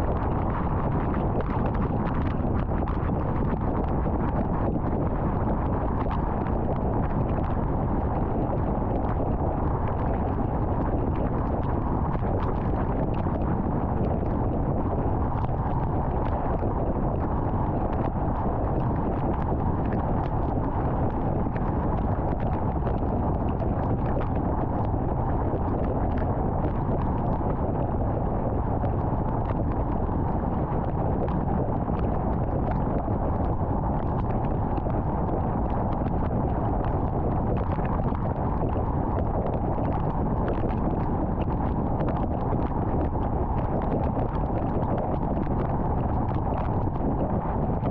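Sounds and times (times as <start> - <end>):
tyre and wind noise: 0.0 - 47.9.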